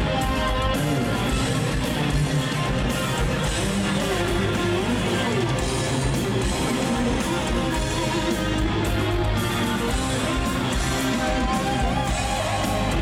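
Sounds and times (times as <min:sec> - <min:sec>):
electric guitar: 0:00.0 - 0:13.0
rock band playing live: 0:00.0 - 0:13.0.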